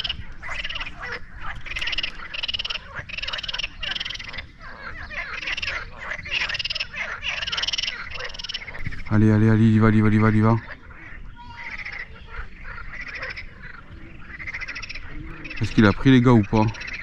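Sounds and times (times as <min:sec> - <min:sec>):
frogs croaking in chorus: 0:00.0 - 0:17.0.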